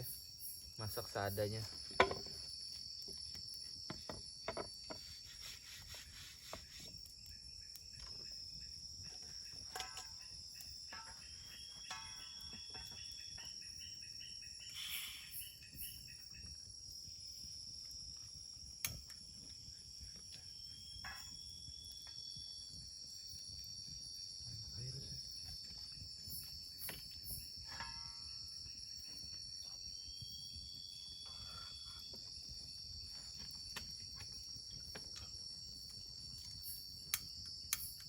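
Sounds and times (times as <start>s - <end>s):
crickets and insects chirping: 0.0s - 38.0s.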